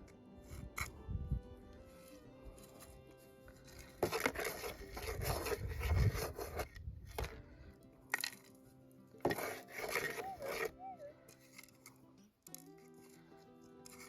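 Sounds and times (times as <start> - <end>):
digging tool scraping stony ground: 0.0 - 14.0.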